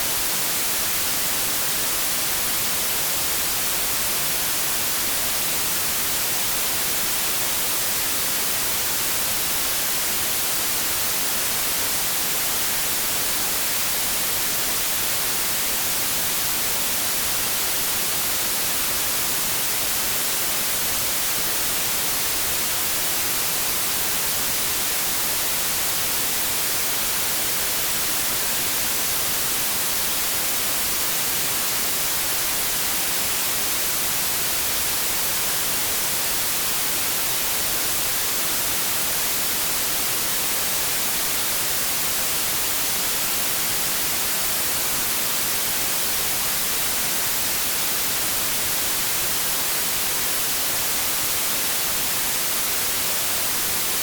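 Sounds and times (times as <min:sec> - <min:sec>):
white noise static hiss: 0:00.0 - 0:54.0.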